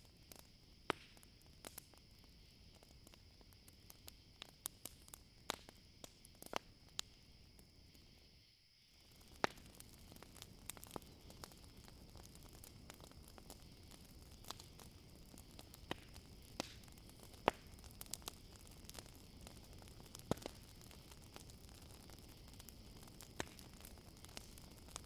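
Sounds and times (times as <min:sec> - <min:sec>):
campfire crackling and popping: 0:00.0 - 0:08.2, 0:08.9 - 0:25.0
crickets chirring: 0:00.0 - 0:25.0.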